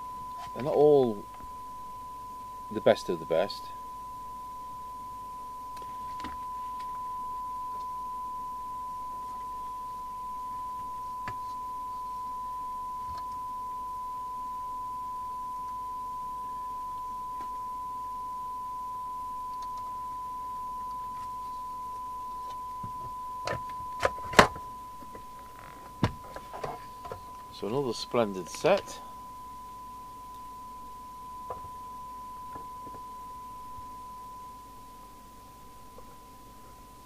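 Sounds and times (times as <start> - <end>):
steady test tone: 0.0 - 37.0.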